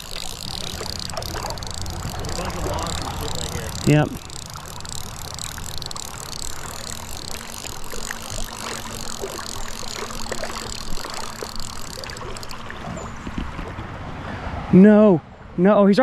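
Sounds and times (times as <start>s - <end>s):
small clicks: 0.0s - 13.8s
faint steady hum: 0.0s - 15.9s.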